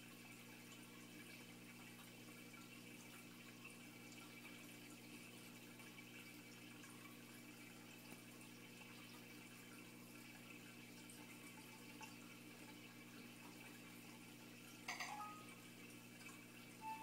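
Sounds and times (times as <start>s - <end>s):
aquarium pump hum: 0.0s - 17.0s
water trickling: 0.0s - 17.0s.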